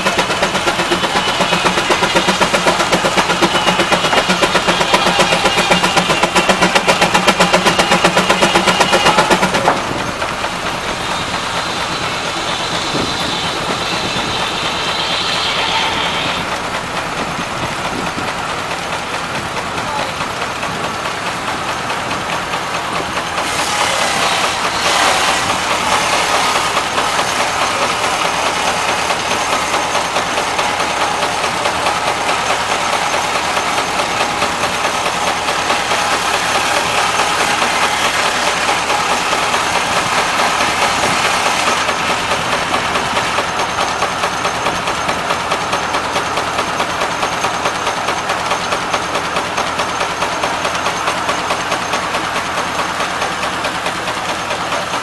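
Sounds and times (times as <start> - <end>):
steam engine running: 0.0 - 55.0.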